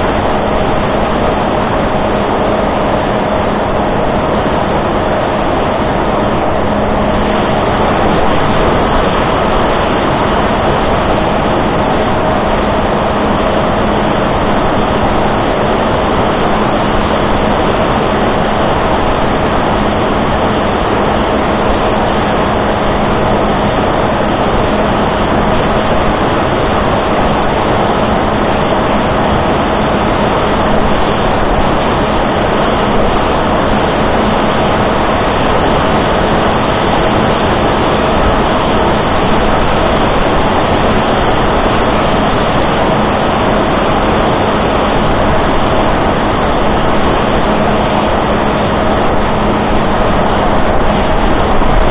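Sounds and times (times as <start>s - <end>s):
airflow rushing over microphone: 0.0s - 51.9s
electric motor and propeller: 0.0s - 51.9s.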